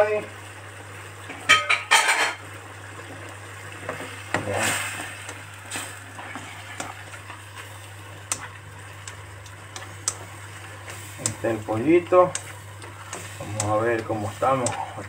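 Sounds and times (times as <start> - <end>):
sauce sizzling: 0.0 - 15.0.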